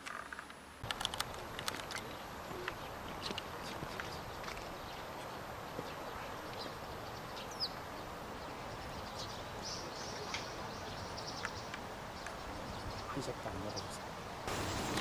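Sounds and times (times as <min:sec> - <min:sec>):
steady background hiss: 0:00.0 - 0:15.0
birds chirping: 0:00.8 - 0:15.0.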